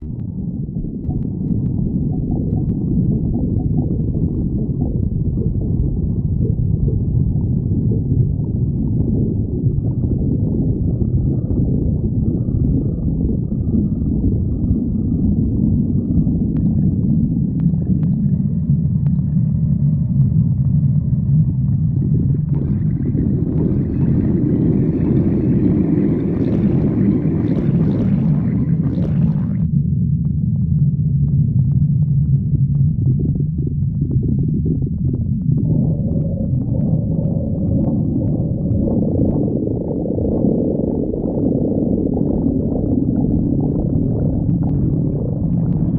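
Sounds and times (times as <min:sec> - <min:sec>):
stomach growling: 0:00.0 - 0:45.9.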